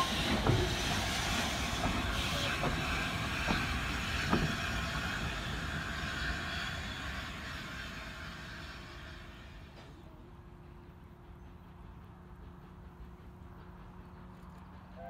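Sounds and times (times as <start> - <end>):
steam train hissing: 0.0 - 15.0.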